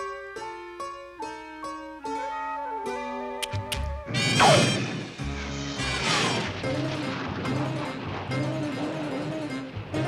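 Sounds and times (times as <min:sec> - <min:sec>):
lilting cartoon music: 0:00.0 - 0:10.0.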